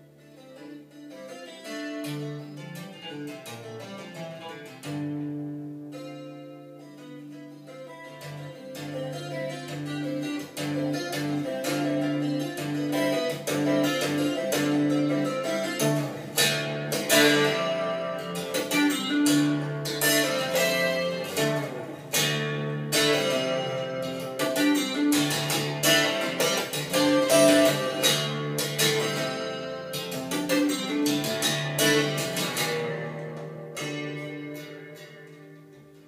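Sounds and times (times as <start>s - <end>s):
plucked string music on speakers: 0.0s - 36.0s.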